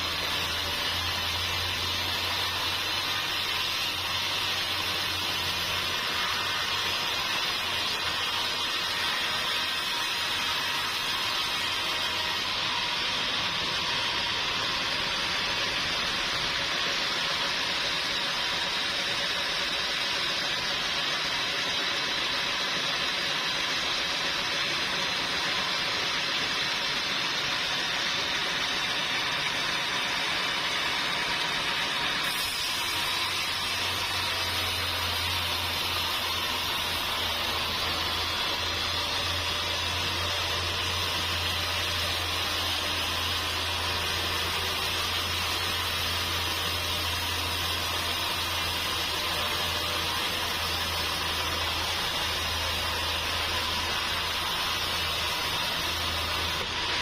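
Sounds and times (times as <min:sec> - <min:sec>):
sawmill machinery hissing: 0:00.0 - 0:57.0.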